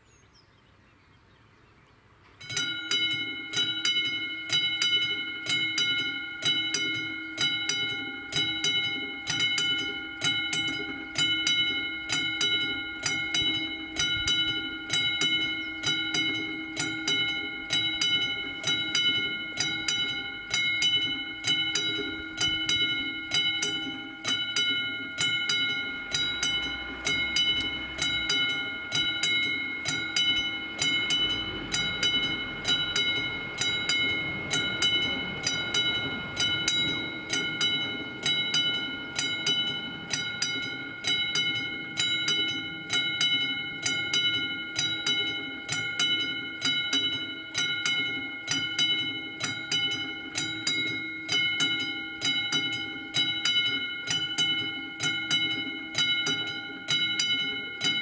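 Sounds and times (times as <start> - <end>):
level crossing bell ringing: 2.4 - 58.0.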